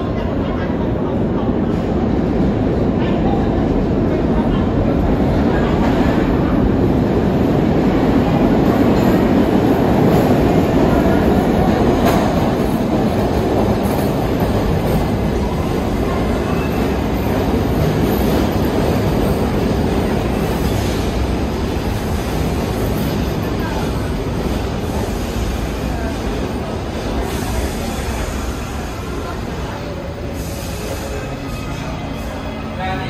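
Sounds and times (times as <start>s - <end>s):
subway train wheels rumbling on rail: 0.0s - 33.0s.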